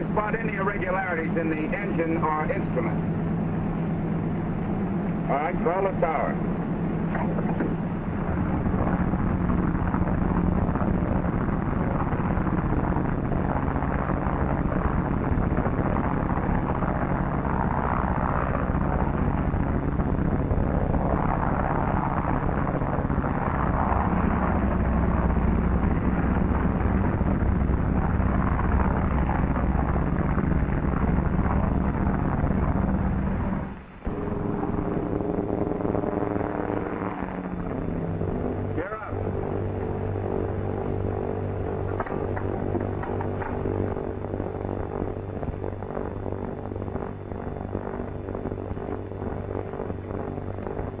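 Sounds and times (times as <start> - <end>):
propeller plane engines at takeoff: 0.0 - 51.0.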